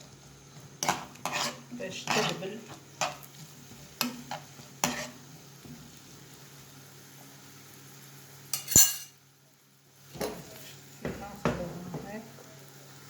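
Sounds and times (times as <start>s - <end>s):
onion sizzling in a frying pan: 0.0s - 13.0s.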